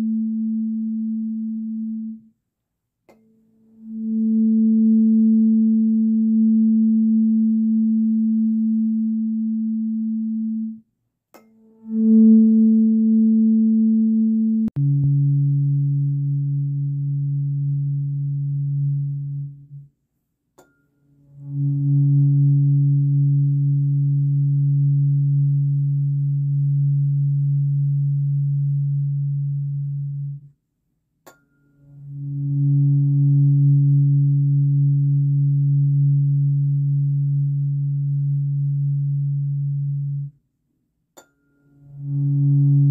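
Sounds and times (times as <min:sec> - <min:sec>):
tuning fork ringing: 0:00.0 - 0:02.3, 0:03.1 - 0:10.8, 0:11.4 - 0:19.9, 0:20.6 - 0:30.5, 0:31.2 - 0:40.3, 0:41.2 - 0:42.9.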